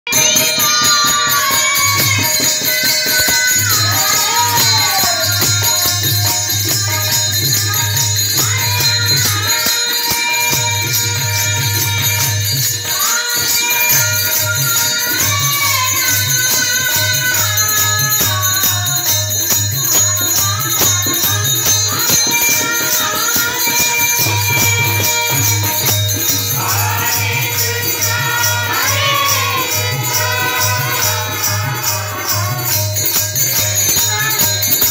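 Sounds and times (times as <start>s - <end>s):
boy singing: 0.1s - 34.9s
hand cymbals jingling: 0.1s - 34.9s
harmonium held notes: 0.1s - 34.9s.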